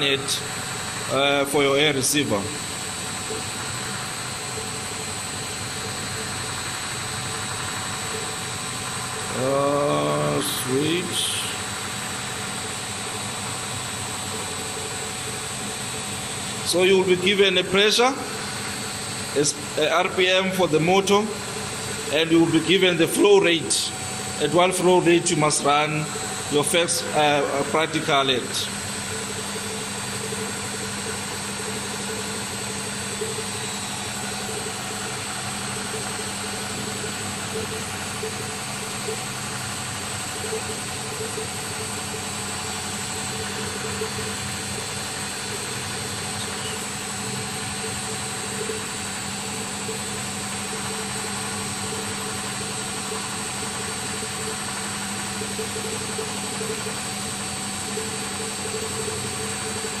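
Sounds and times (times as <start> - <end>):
air compressor running: 0.0 - 60.0.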